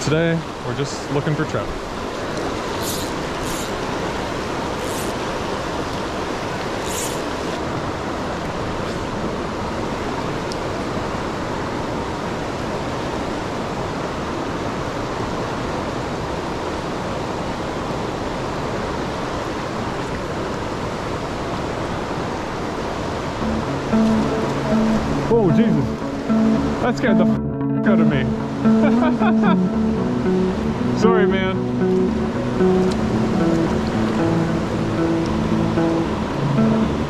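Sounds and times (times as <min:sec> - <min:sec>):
river water rushing over rocks: 0:00.0 - 0:26.9, 0:28.8 - 0:37.0.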